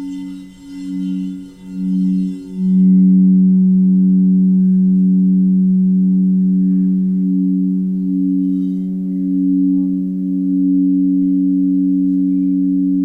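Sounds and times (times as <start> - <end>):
singing bowls ringing: 0.0 - 13.0.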